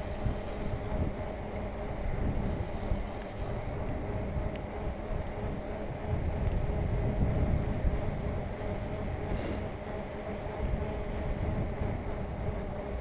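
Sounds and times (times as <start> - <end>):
tyres humming on asphalt: 0.0 - 13.0
wind noise on microphone: 0.0 - 13.0.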